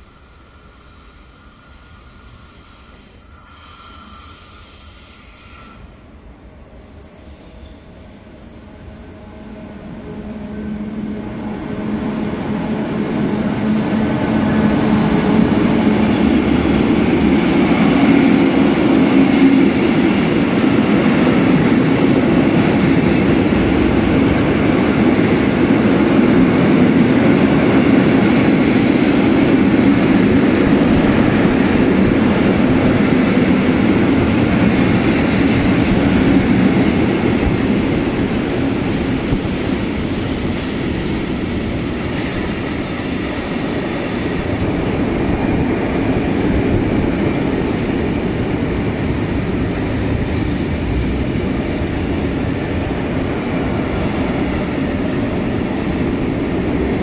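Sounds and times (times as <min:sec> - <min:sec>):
electric freight train passing: 0:00.0 - 0:57.0
train wheels on rails: 0:00.0 - 0:57.0.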